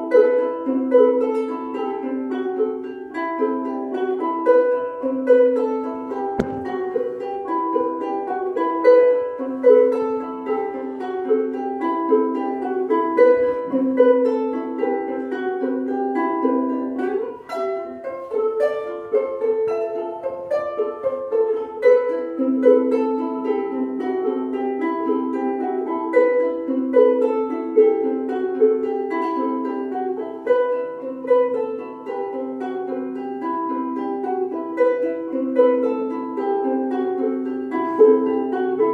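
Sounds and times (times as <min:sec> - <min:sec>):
ukulele duet: 0:00.0 - 0:38.9.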